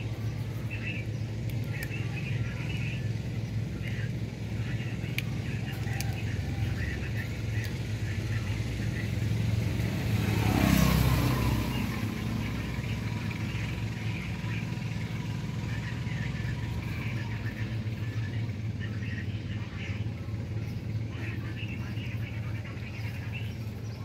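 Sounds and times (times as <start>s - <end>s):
motor vehicle passing by: 0.0s - 24.0s.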